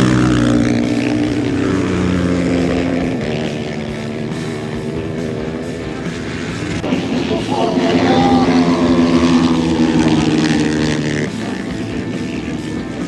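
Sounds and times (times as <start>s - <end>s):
racing motorcycle engine: 0.0s - 13.0s.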